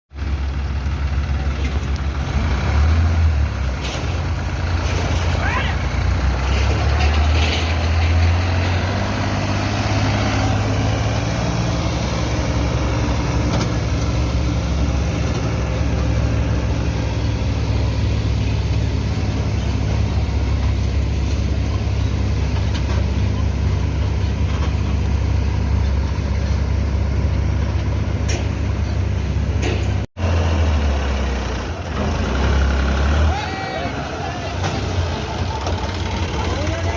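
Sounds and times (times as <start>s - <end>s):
tractor diesel engine running: 0.1s - 36.9s.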